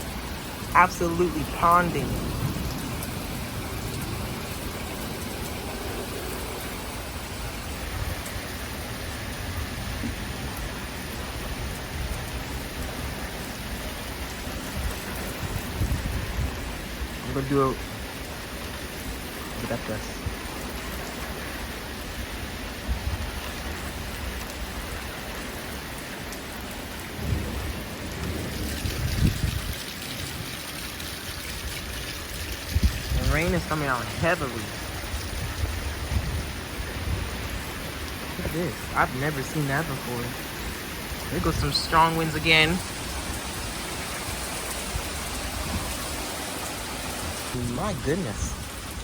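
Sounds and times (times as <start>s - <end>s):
thunder rumbling: 0.0s - 17.2s, 26.9s - 49.0s
wind gusting on microphone: 0.0s - 18.2s, 22.2s - 25.4s, 27.0s - 30.8s, 31.4s - 49.0s
torrential rain pouring: 0.0s - 49.0s.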